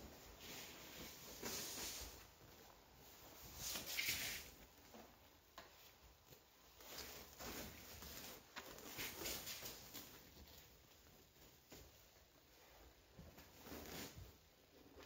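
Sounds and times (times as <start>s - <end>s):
stiff fabric rustling: 0.0s - 15.0s.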